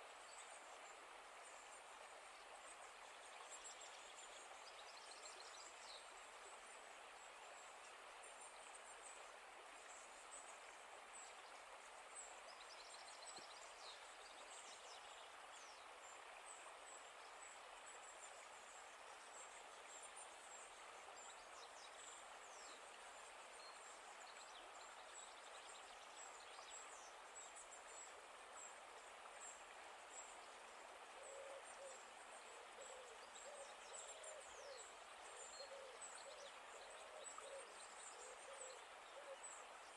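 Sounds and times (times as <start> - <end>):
steady outdoor hiss: 0.0 - 39.9.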